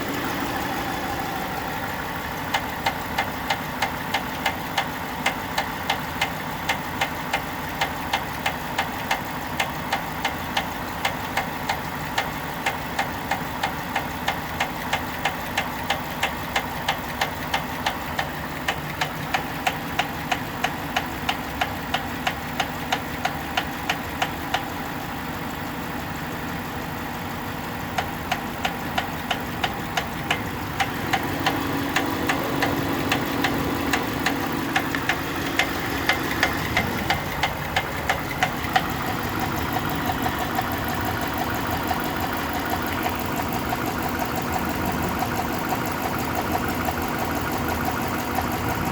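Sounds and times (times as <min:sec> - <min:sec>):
engine idling: 0:00.0 - 0:48.9
engine knocking: 0:00.0 - 0:48.9.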